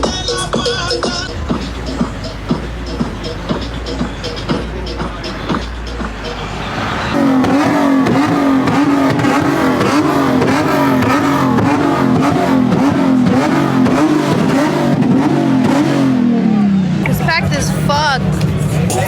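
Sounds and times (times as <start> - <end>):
car engine revving with pops: 0.0 - 19.0.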